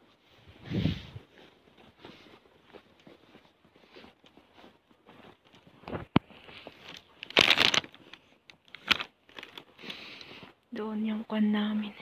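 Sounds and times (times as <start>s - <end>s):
footsteps crunching on snow: 0.0s - 10.6s
rustling noise: 0.0s - 10.6s.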